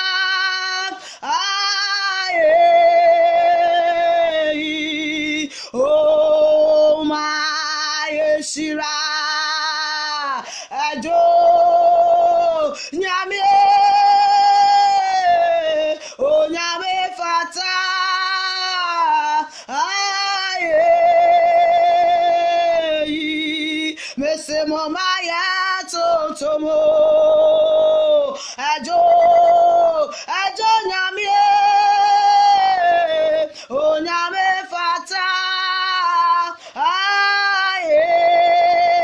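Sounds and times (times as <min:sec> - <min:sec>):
woman singing: 0:00.0 - 0:39.0.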